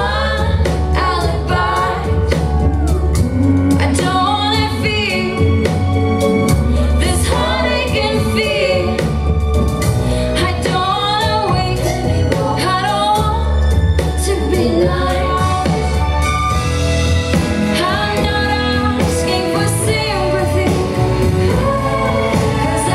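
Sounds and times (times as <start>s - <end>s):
pop music with woman singing: 0.0s - 16.0s, 17.3s - 22.9s.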